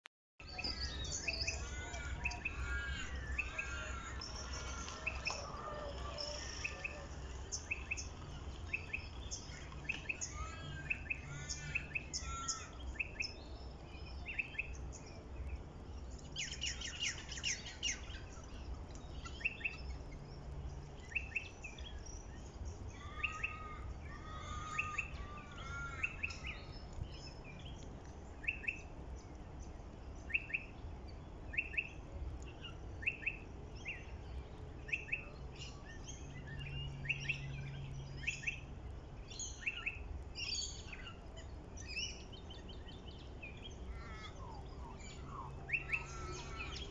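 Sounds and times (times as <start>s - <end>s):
birds chirping: 0.4s - 46.9s.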